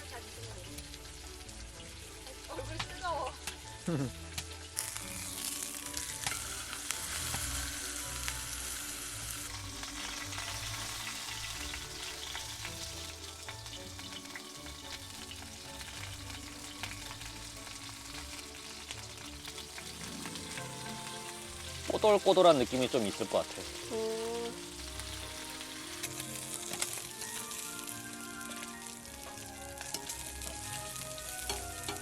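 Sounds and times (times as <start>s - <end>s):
meat sizzling in a hot pan: 0.0s - 32.0s.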